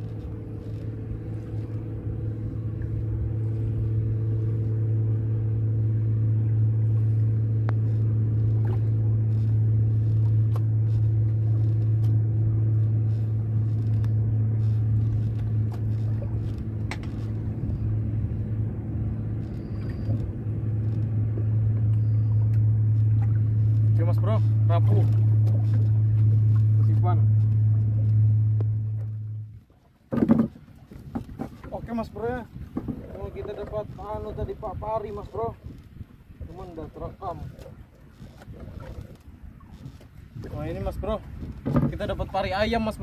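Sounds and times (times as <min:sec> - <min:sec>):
boat engine idling: 0:00.0 - 0:43.0.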